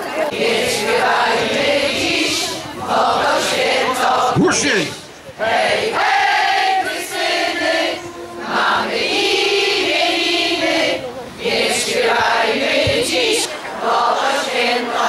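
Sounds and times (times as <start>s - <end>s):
women singing together: 0.0s - 4.4s, 5.2s - 15.0s.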